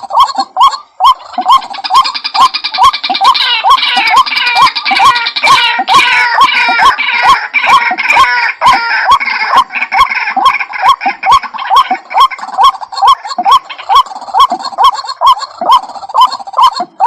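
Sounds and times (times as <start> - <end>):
higher overlapping bird calls: 0.0 - 17.0.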